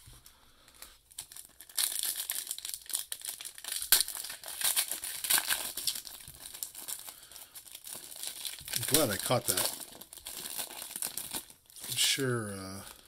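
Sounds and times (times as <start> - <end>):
foil wrapper tearing and crinkling: 1.1 - 13.0.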